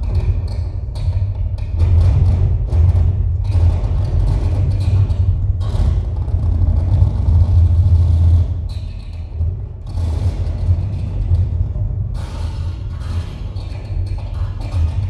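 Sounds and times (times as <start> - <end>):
loud dense low rumble: 0.0 - 15.0
noise music: 0.0 - 15.0
harsh rough noise: 1.8 - 15.0.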